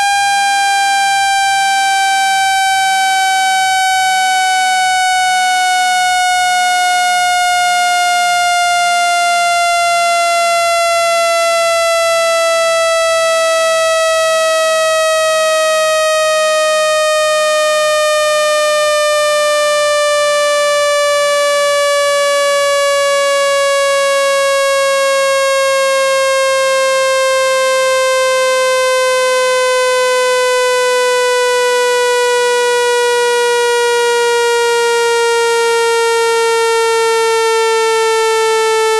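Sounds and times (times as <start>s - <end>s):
buzzy electronic test tone: 0.0s - 38.9s.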